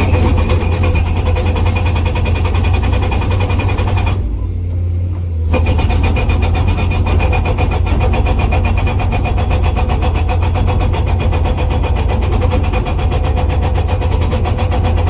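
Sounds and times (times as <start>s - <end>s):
hydraulic breaker hammering rock: 0.0s - 4.4s, 5.5s - 15.0s
diesel engine running: 0.0s - 15.0s.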